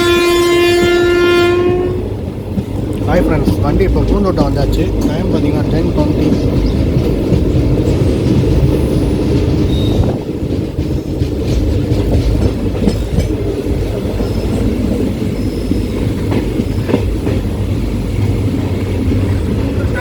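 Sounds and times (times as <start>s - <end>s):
train rumbling: 0.0s - 20.0s
wheels clicking and knocking: 2.3s - 20.0s.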